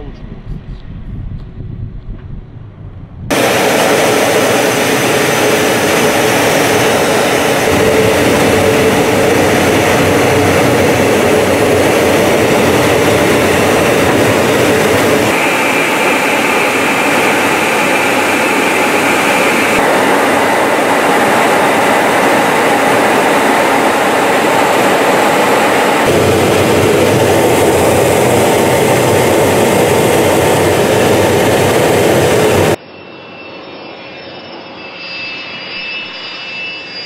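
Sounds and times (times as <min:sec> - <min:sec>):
jet engines with afterburners: 0:00.0 - 0:35.0
high jet whine: 0:03.3 - 0:37.0.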